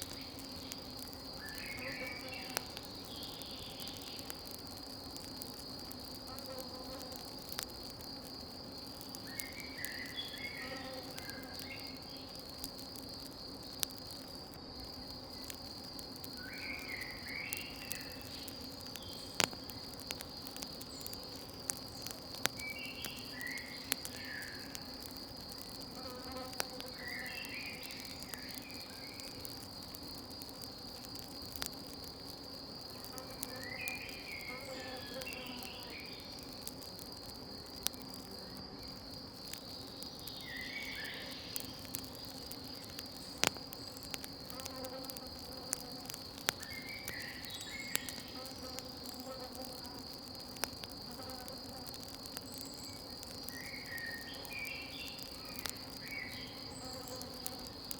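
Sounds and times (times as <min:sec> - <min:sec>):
campfire crackling pops: 0:00.0 - 0:57.9
crickets chirring: 0:00.0 - 0:57.9.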